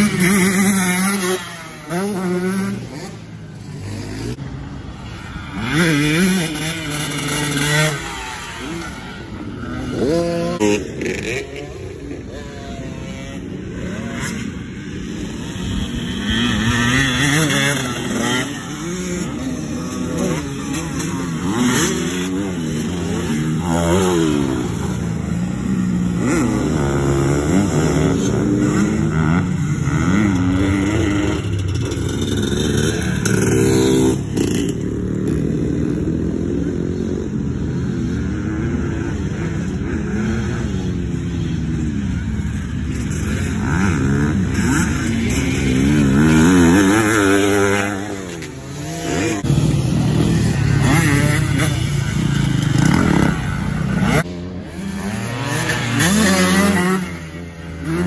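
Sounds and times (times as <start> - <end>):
dirt bikes revving: 0.0 - 58.0.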